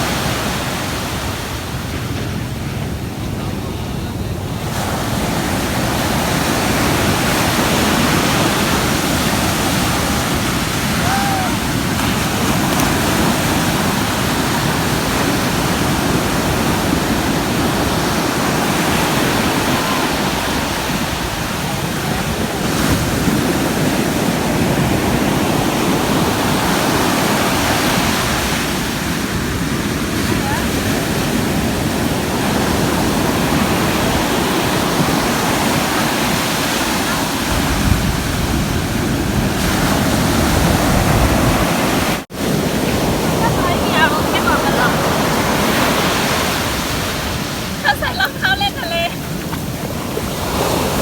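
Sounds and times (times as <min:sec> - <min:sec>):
sea surf washing in: 0:00.0 - 0:51.0.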